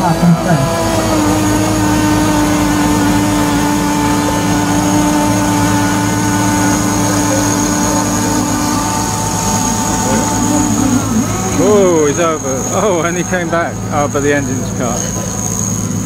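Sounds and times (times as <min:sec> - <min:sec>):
model boat engines droning: 0:00.0 - 0:16.0.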